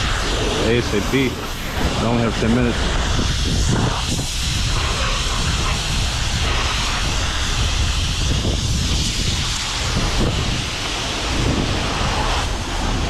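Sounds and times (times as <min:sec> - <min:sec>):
pressure washer spraying: 0:00.0 - 0:13.0.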